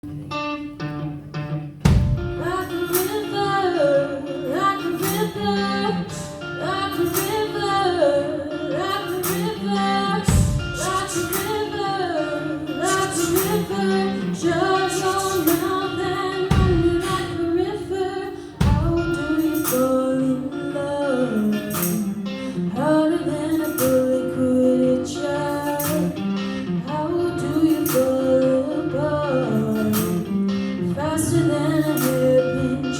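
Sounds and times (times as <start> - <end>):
guitar with steady beat: 0.0 - 32.9
woman singing: 2.3 - 32.9.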